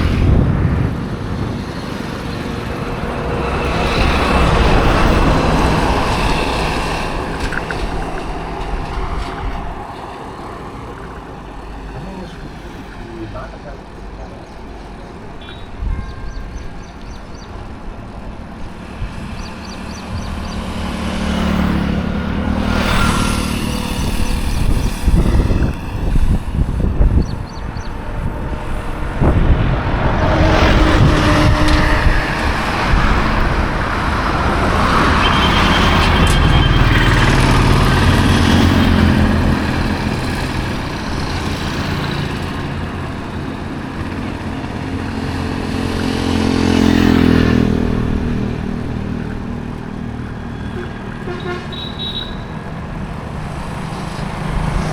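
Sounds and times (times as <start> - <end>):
road rumble: 0.0 - 54.9
vehicles passing close by: 0.0 - 54.9.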